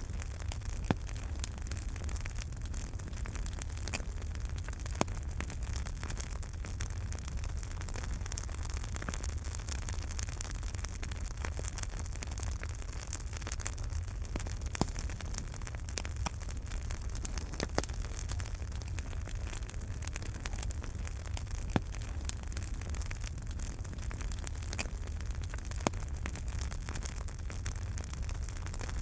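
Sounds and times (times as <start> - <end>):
loud fire pops: 0.0 - 29.0
low rumble of burning: 0.0 - 29.0
wood fire crackling: 0.0 - 29.0.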